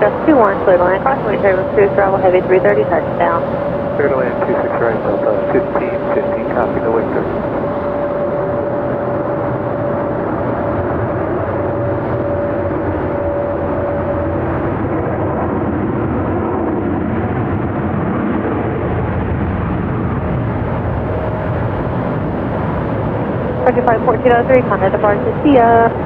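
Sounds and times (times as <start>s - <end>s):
high jet whine: 0.0s - 26.0s
jet engines landing: 0.0s - 26.0s.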